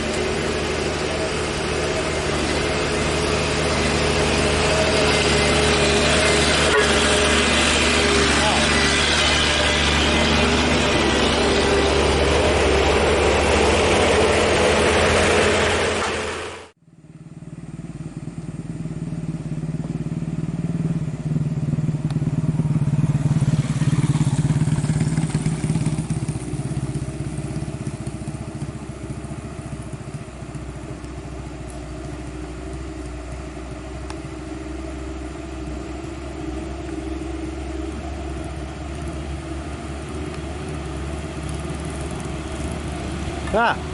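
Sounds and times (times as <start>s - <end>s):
heavy truck engine running: 0.0s - 43.9s.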